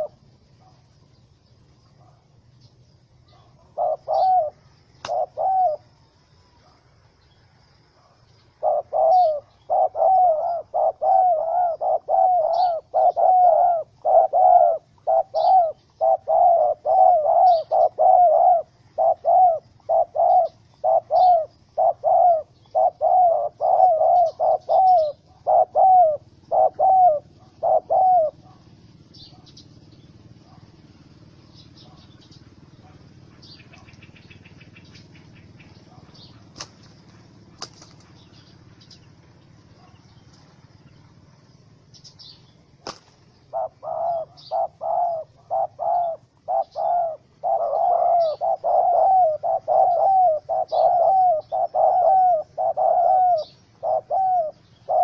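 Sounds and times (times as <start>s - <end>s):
dove cooing: 0.0s - 1.0s, 3.2s - 6.8s, 7.9s - 55.0s
small birds chirping: 0.0s - 55.0s.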